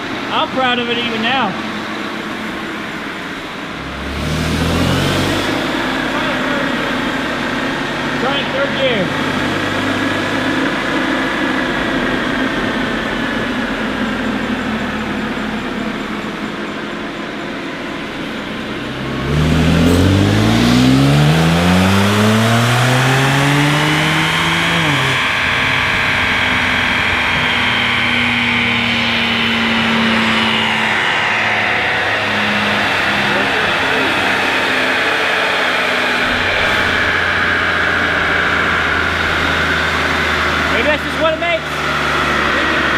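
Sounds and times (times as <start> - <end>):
car engine revving on a dyno: 0.0 - 42.9
turbo whine: 0.0 - 42.9.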